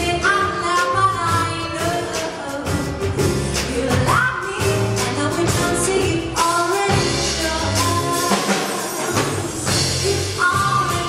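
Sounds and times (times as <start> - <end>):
drums and cymbals: 0.0 - 11.0
percussion: 0.0 - 11.0
woman singing: 0.0 - 11.0.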